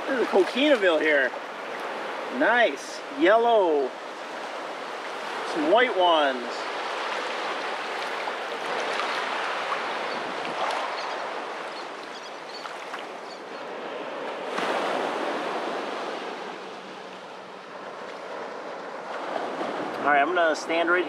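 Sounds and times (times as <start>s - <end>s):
small waves washing up beach: 0.0s - 21.0s.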